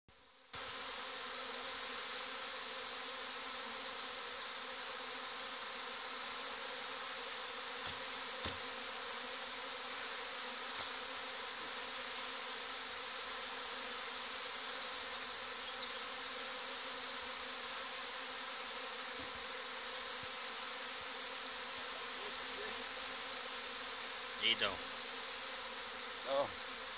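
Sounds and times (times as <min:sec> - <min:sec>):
bees buzzing: 0:00.6 - 0:26.9.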